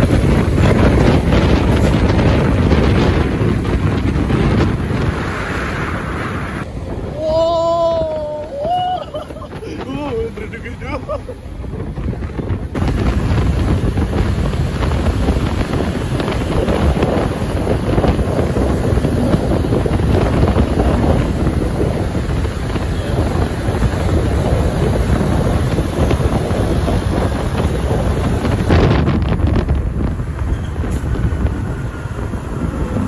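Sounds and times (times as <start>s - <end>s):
vehicle rumble: 0.0s - 33.0s
wind buffeting microphone: 0.0s - 33.0s.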